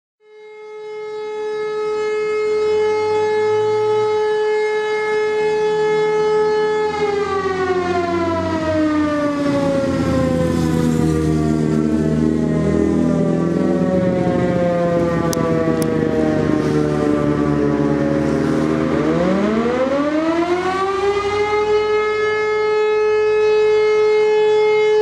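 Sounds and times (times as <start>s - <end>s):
alarm siren steady tone: 0.2s - 25.0s.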